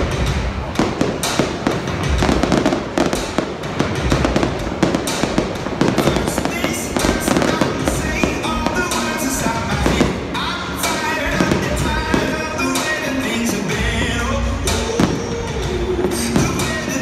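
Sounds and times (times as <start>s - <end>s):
fireworks bursting and crackling: 0.0s - 17.0s
music playing: 0.0s - 17.0s.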